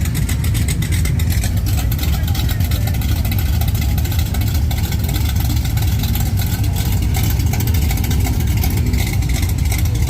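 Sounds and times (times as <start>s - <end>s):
truck engines rumbling: 0.0s - 10.0s.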